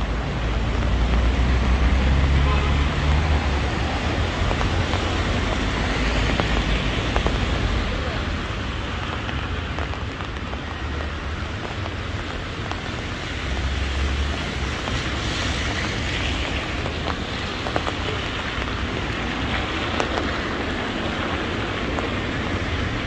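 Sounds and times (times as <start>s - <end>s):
heavy rain hissing: 0.0s - 23.0s
rain drop ticks: 0.0s - 23.0s.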